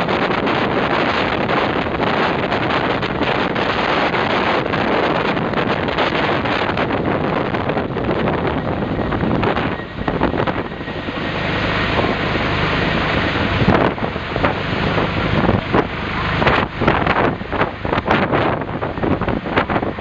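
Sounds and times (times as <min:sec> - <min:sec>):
helicopter engine and rotor: 0:00.0 - 0:20.0
wind buffeting microphone: 0:00.0 - 0:20.0.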